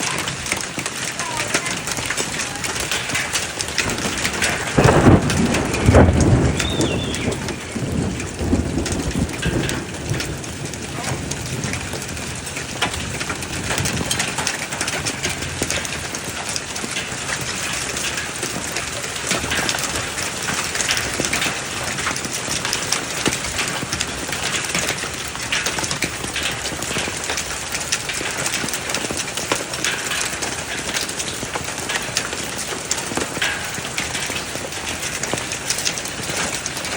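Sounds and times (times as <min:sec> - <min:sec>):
rain and hail pelting down: 0:00.0 - 0:36.9
thunder rumble: 0:00.0 - 0:36.9.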